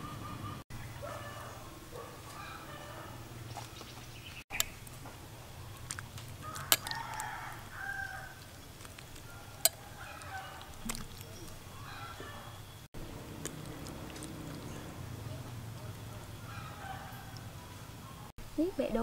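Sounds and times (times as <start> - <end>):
birds calling: 0.0 - 18.3.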